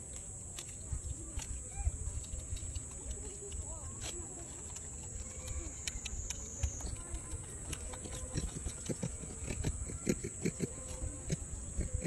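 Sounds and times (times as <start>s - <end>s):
monkey chewing corn: 2.1s - 12.0s.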